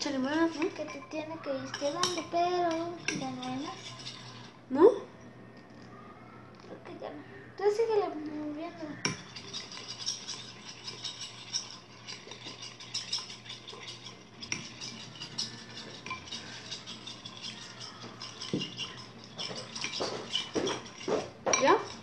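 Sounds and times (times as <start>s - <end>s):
spoon stirring slime in plastic bowl: 0.0s - 4.6s, 8.8s - 22.0s.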